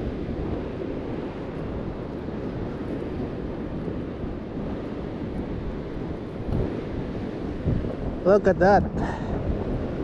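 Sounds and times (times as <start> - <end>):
ocean surf washing in: 0.0 - 10.0
wind buffeting microphone: 0.0 - 10.0.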